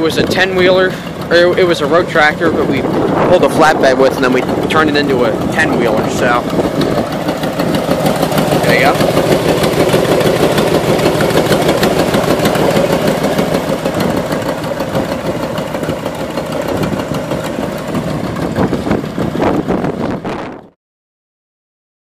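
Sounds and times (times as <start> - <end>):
truck engine idling: 0.0 - 20.7.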